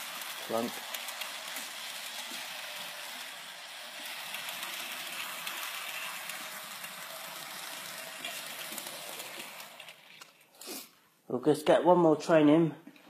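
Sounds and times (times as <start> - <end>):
model train whirring on rails: 0.0 - 10.8.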